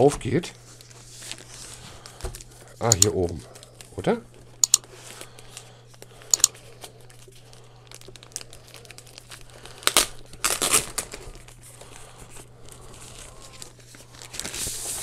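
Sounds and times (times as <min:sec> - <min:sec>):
wrapping crinkling and rustling: 0:00.0 - 0:15.0.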